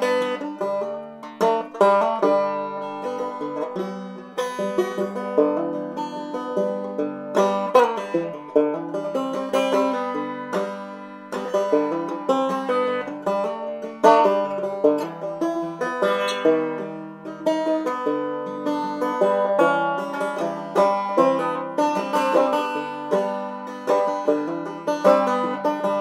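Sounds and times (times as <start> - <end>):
fast plucked banjo tune: 0.0 - 26.0.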